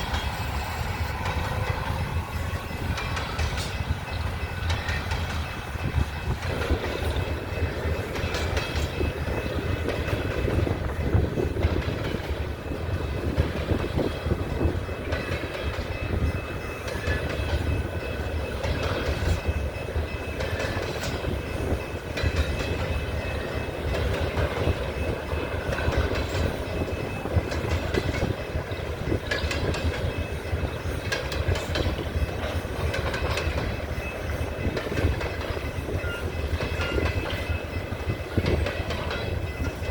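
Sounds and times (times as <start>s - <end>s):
train cars rumbling past: 0.0s - 39.9s
wheels clacking over rail joints: 0.0s - 39.9s.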